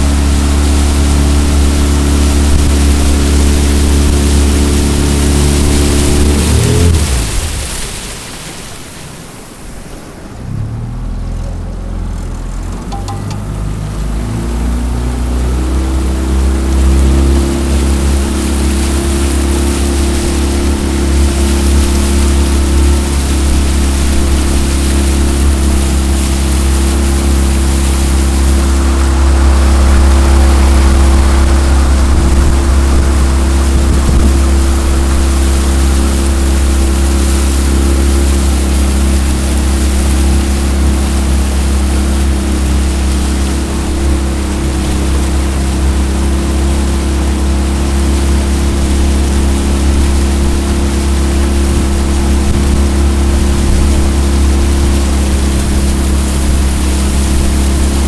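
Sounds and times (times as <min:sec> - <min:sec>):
outboard motor droning: 0:00.0 - 0:58.0
water rushing along hull: 0:00.0 - 0:58.0.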